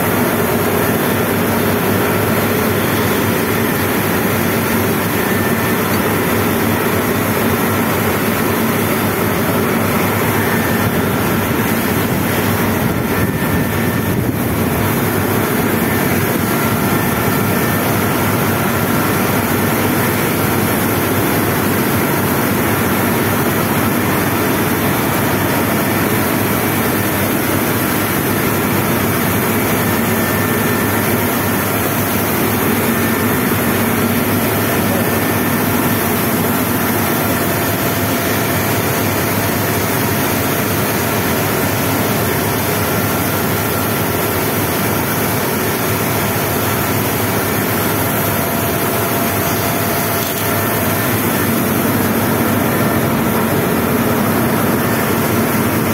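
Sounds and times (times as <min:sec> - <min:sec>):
industrial machinery drone: 0:00.0 - 0:55.9.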